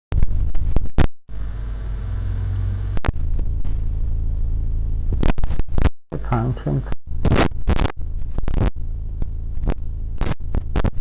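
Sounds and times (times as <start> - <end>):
steady low rumble: 0.1 - 11.0.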